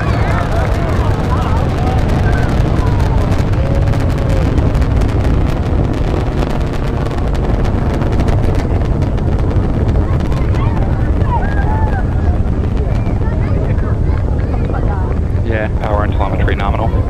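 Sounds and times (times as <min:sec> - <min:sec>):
rocket engines rumbling and crackling: 0:00.0 - 0:17.0.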